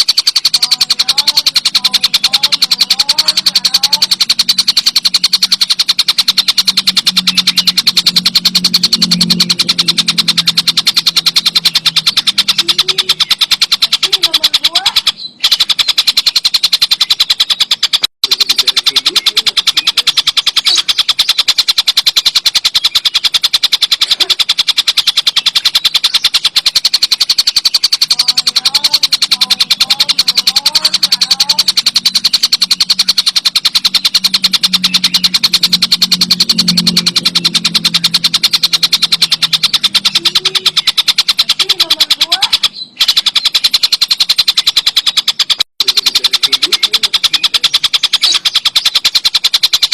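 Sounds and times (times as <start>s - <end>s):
kingfisher rattling chatter: 0.0s - 49.9s.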